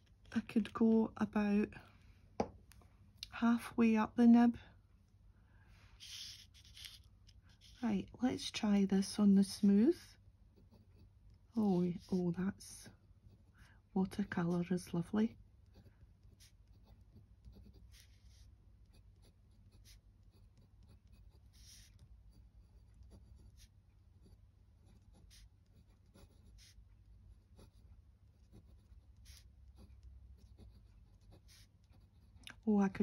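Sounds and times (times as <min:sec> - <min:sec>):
low steady hum: 0:00.0 - 0:33.0
pen nib scratching on paper: 0:06.0 - 0:33.0.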